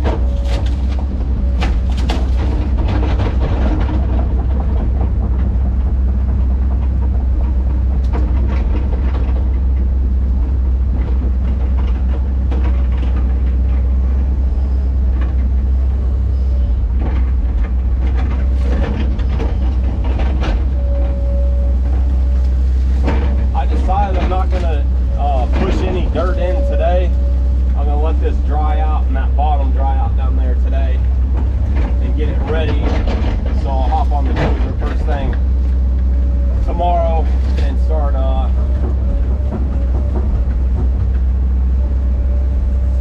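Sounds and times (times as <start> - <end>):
heavy machine diesel engine: 0.0 - 43.0
metal clanks and knocks: 0.0 - 43.0.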